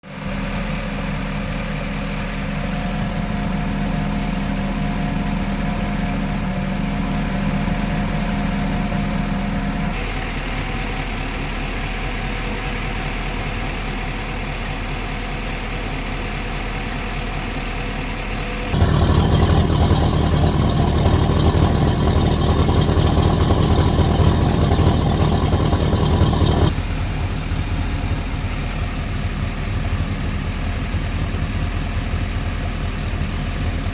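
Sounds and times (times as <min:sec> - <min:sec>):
boat engine idling: 0:00.0 - 0:33.9.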